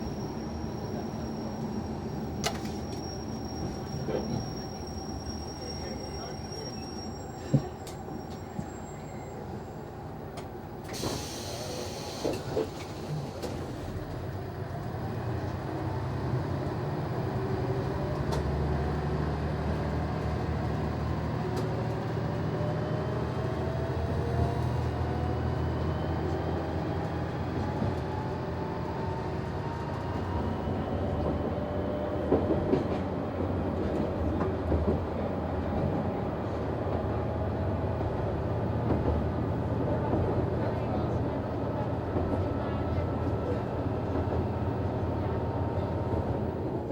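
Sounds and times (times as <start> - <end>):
diesel railcar engine: 0.0 - 46.9.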